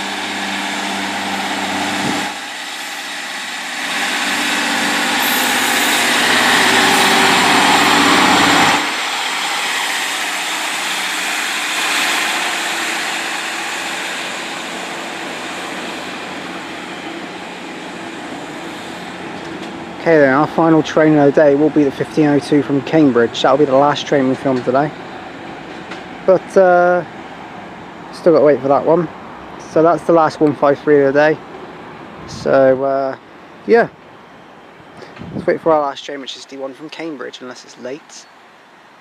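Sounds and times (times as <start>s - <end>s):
diesel train engine pulling away: 0.0s - 39.0s.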